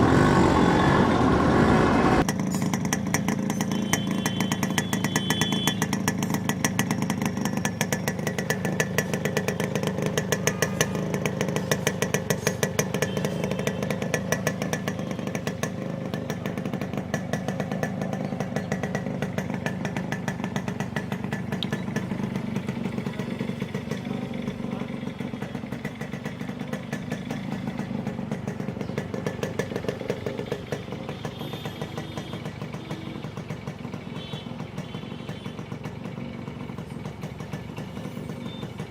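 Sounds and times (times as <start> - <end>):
two-stroke engine running: 0.0 - 38.9.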